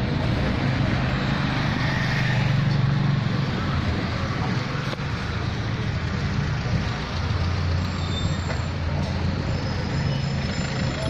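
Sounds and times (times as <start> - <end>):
car engines passing: 0.0 - 11.0.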